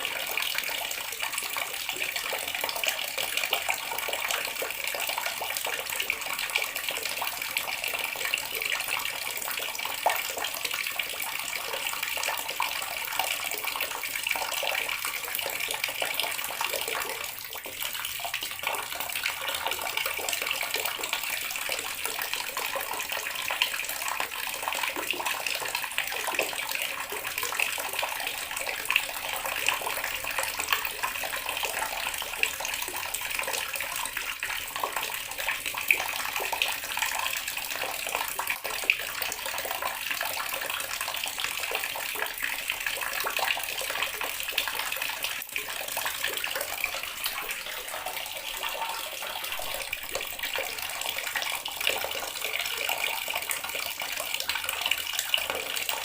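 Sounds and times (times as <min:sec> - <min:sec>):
tap water running and splashing: 0:00.0 - 0:56.0.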